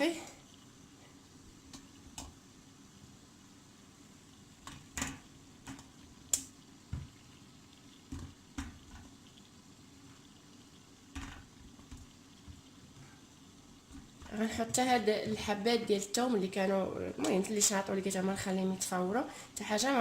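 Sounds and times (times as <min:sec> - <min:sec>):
water simmering: 0:00.0 - 0:20.0.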